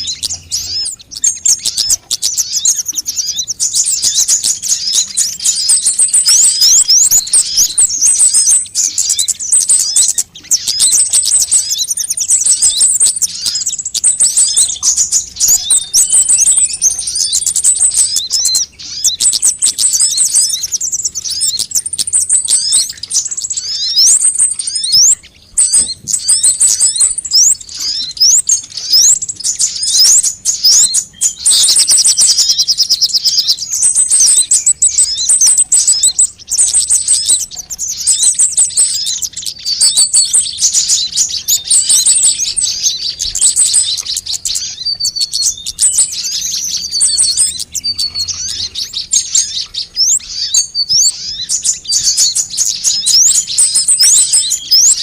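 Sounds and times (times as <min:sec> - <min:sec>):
sunbirds chirping and trilling: 0:00.0 - 0:55.0.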